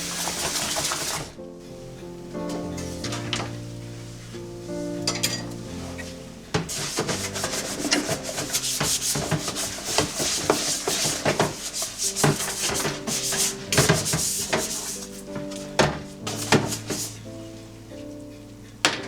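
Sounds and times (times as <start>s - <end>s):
scrubbing strokes on air fryer: 0.0s - 18.8s.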